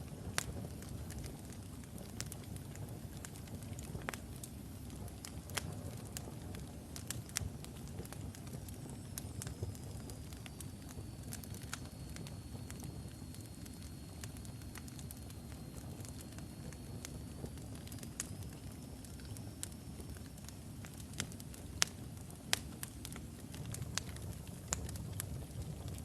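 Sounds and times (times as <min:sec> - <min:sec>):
fire crackles and pops: 0:00.0 - 0:26.0
low rumble of flame: 0:00.0 - 0:26.0.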